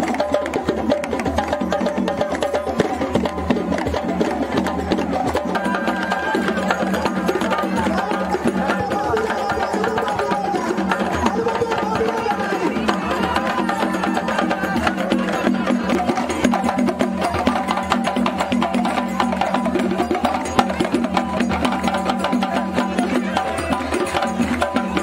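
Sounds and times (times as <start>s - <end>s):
drum ensemble playing: 0.0s - 25.0s.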